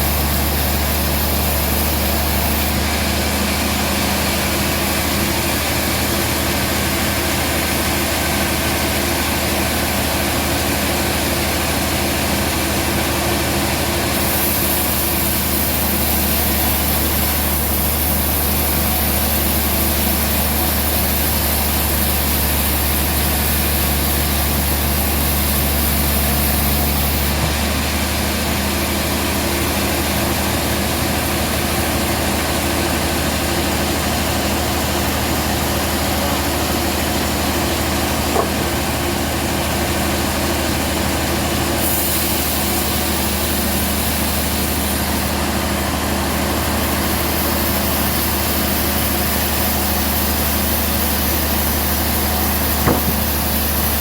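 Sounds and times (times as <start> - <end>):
band sawmill deep hum: 0.0 - 10.1, 13.8 - 33.6, 34.8 - 41.1, 41.8 - 54.0.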